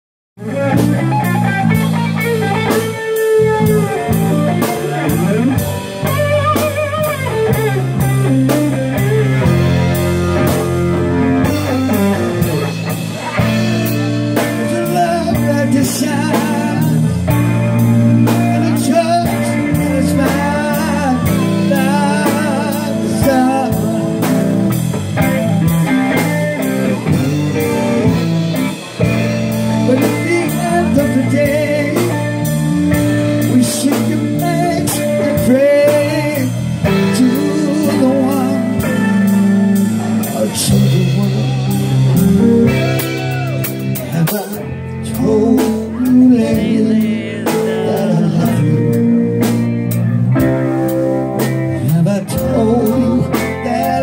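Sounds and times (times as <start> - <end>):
bass guitar: 0.4 - 54.0
drum kit steady beat: 0.4 - 54.0
electric guitar lead: 0.4 - 54.0.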